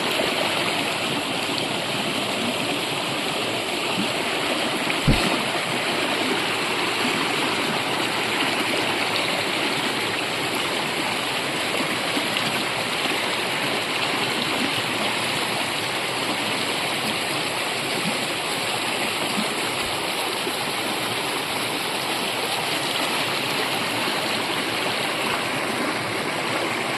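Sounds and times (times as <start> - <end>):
brook flowing: 0.0 - 26.9.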